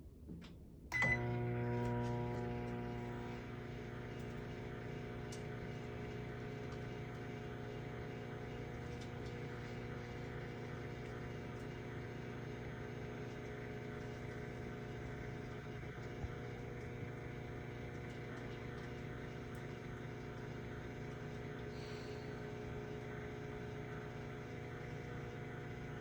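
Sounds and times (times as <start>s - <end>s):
microwave oven humming: 0.9s - 26.0s.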